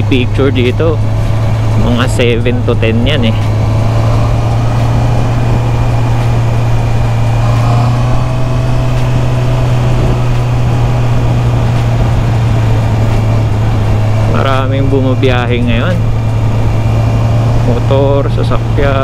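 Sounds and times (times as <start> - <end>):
motor scooter running: 0.0 - 19.0.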